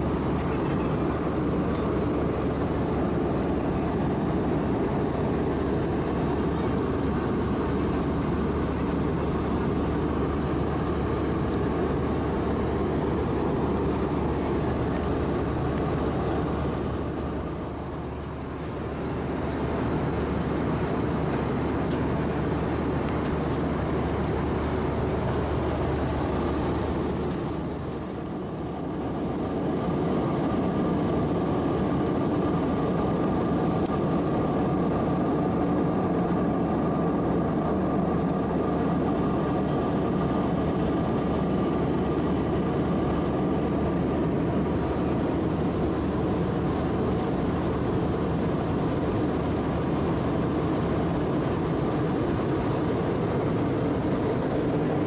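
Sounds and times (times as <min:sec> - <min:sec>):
air rushing along aircraft cabin: 0:00.0 - 0:55.0
jet engines humming: 0:00.0 - 0:55.0.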